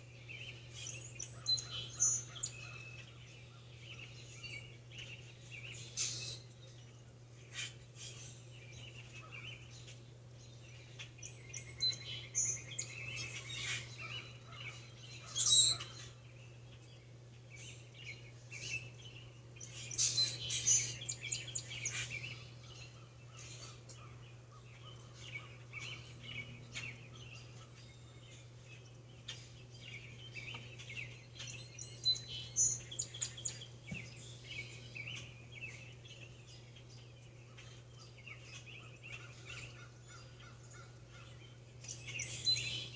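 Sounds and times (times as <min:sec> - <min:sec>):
birds chirping and trilling: 0:00.1 - 0:42.9.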